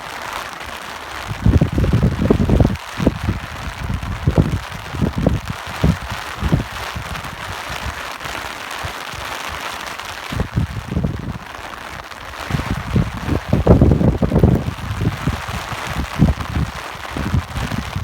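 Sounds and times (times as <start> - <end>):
rain hiss: 0.0 - 18.0
wind gusts rumbling: 1.2 - 8.4, 9.1 - 18.0.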